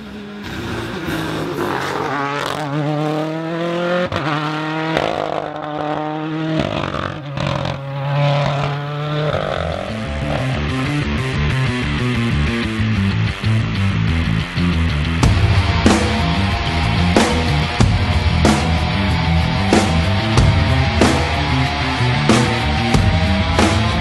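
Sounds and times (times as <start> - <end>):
car engine at high revs: 0.0 - 24.0.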